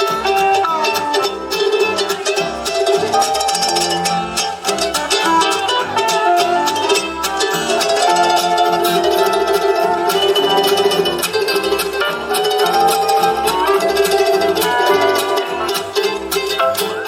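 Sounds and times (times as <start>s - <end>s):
plucked string music with beat: 0.0s - 17.0s.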